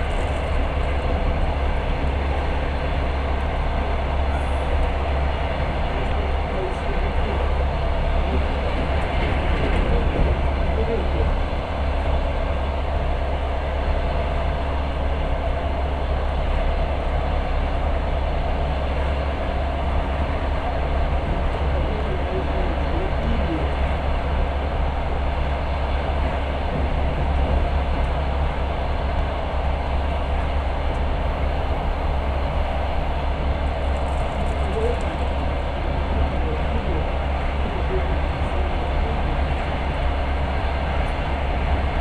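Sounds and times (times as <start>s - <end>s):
train carriage rumble: 0.0s - 42.0s.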